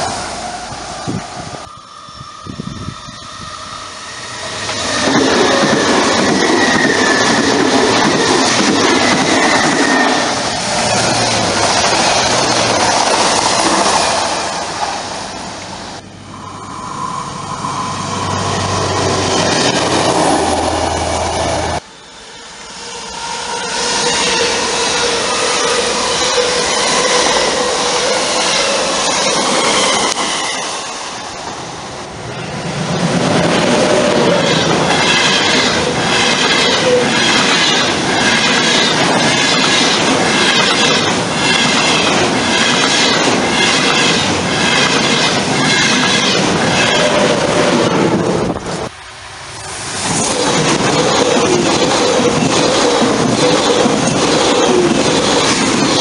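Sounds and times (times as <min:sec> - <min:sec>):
approaching train rush: 0:00.0 - 0:56.0
electric train passing at speed: 0:00.0 - 0:56.0
high-speed train rushing past: 0:00.0 - 0:56.0.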